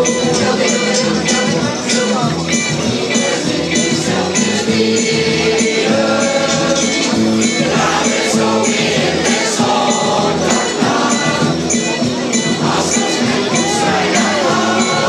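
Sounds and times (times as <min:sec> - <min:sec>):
mixed choir singing: 0:00.0 - 0:15.0.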